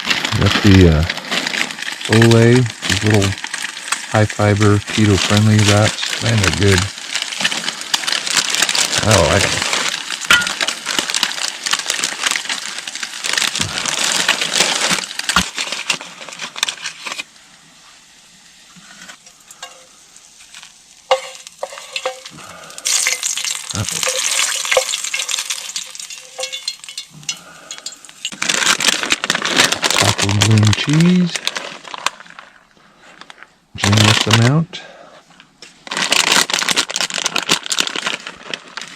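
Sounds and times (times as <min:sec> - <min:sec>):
fish frying in oil: 0:00.0 - 0:32.6, 0:36.2 - 0:38.9.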